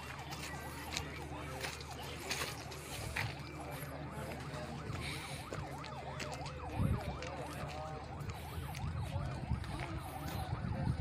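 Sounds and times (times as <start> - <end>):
siren yelping: 0.0 - 11.0.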